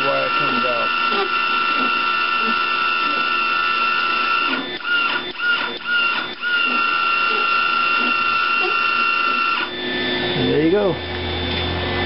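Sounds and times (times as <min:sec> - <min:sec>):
wire-feed motor whining: 0:00.0 - 0:12.0.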